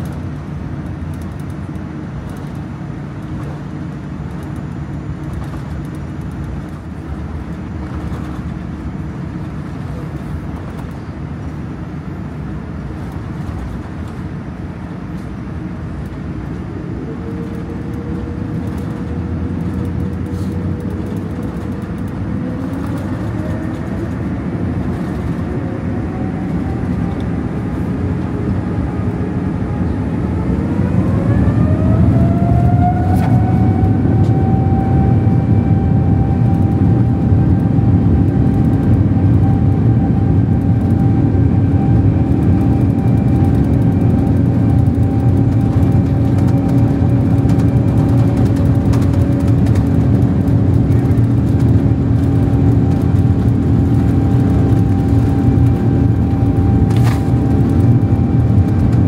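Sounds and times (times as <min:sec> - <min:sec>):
jet engine whine spooling up: 0:00.0 - 0:59.0
low cabin rumble: 0:00.0 - 0:59.0.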